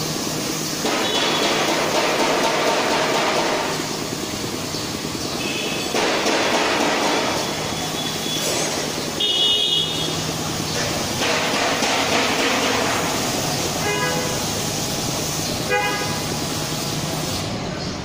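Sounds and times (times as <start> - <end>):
pressure washer spray hiss: 0.0 - 17.9.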